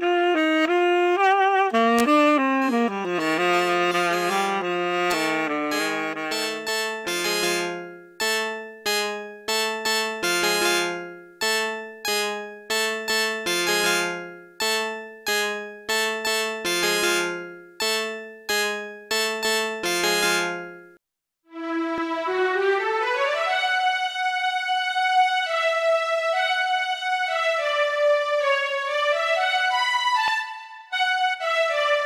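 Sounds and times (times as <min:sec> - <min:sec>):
keyboard chords: 0:00.0 - 0:21.0, 0:21.7 - 0:32.0.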